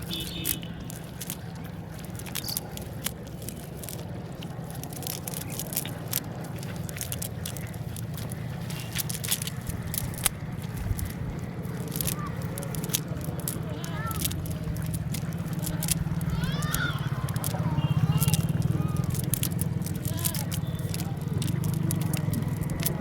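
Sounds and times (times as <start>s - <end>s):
raindrops tapping: 0.0s - 23.0s.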